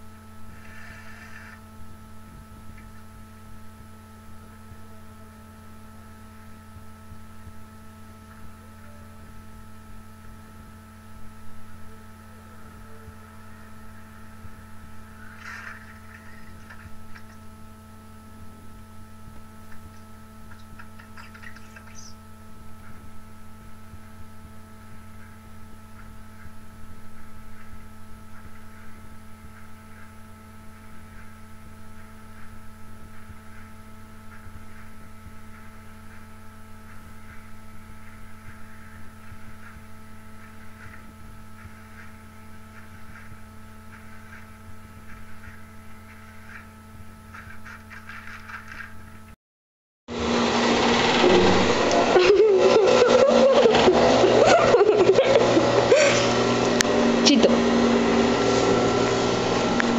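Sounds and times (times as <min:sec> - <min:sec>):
steady electrical hum: 0:00.0 - 0:49.4, 0:50.1 - 0:59.9.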